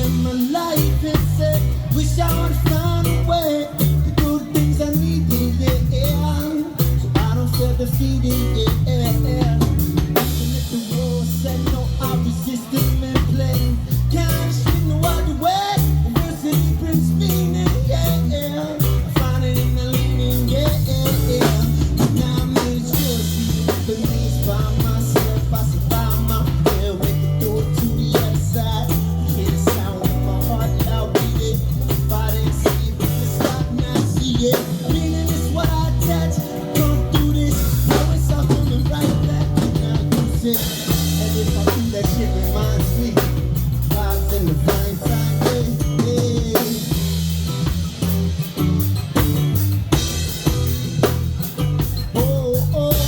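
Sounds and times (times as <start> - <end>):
drum kit with rimshots: 0.0 - 53.0
guitar: 0.0 - 53.0
heavy bass line: 0.0 - 53.0.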